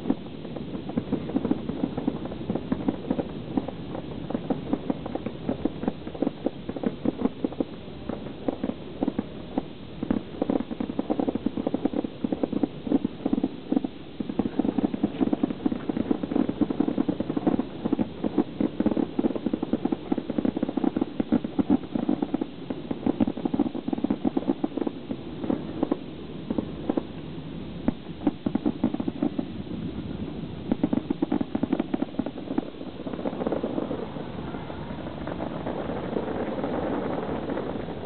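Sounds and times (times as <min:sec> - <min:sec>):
fireworks popping and banging: 0:00.0 - 0:38.0.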